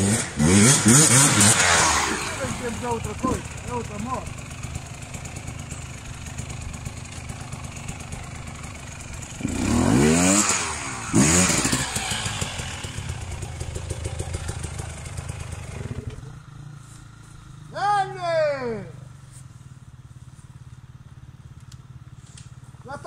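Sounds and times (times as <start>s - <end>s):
dirt bike engine idling and revving: 0.0s - 23.0s.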